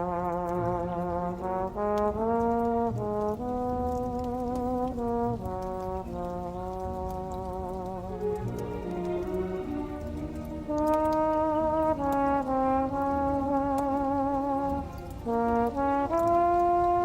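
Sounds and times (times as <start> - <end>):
fireplace crackling: 0.0 - 17.0
old jazz recording with brass lead: 0.0 - 17.0.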